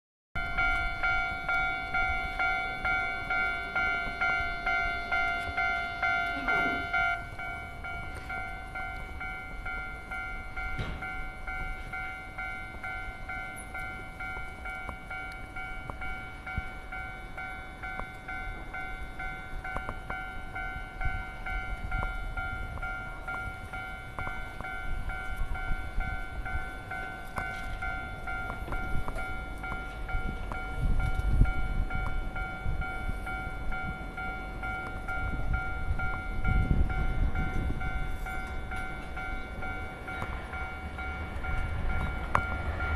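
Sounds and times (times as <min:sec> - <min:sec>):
level crossing alarm ringing: 0:00.4 - 0:42.9
train rumbling on rails: 0:00.4 - 0:42.9.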